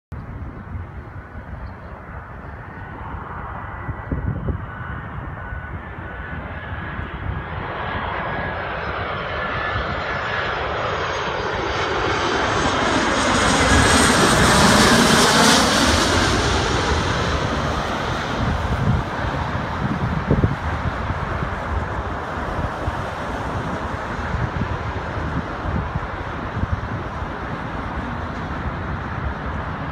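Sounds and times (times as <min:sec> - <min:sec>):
jet plane passing overhead: 0:00.2 - 0:29.9.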